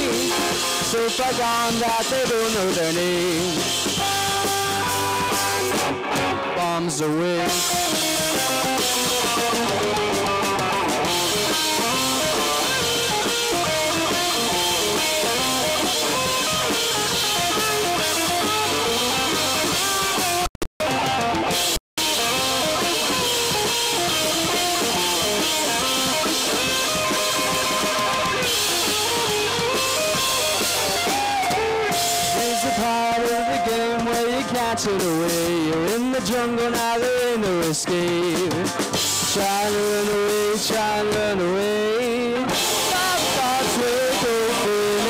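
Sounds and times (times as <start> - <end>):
drum kit: 0.0 - 45.0
electric guitar: 0.0 - 45.0.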